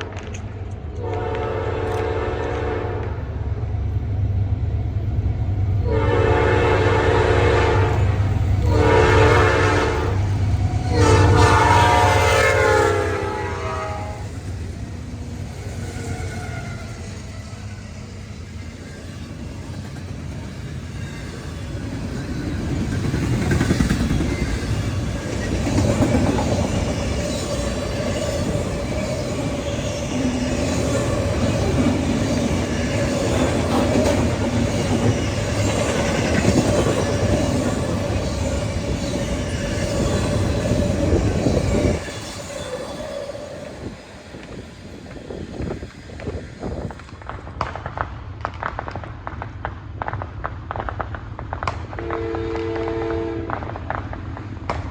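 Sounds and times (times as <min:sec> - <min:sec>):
train rumbling past: 0:00.0 - 0:54.9.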